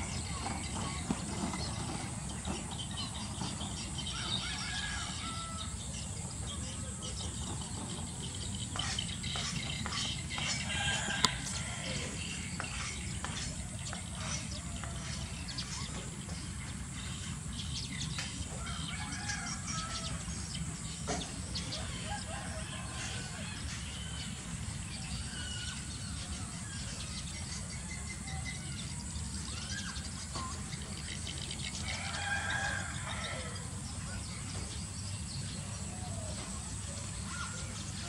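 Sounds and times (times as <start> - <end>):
birds calling and chirping: 0.0 - 38.0.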